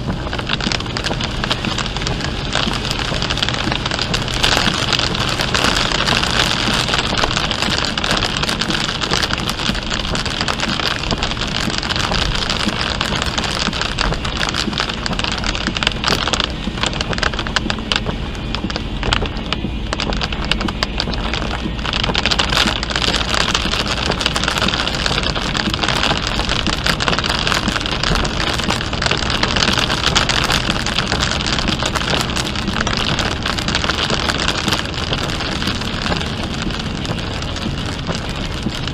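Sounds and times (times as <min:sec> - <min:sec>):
heavy rain pelting a car: 0:00.0 - 0:38.9
road and engine noise: 0:00.0 - 0:38.9.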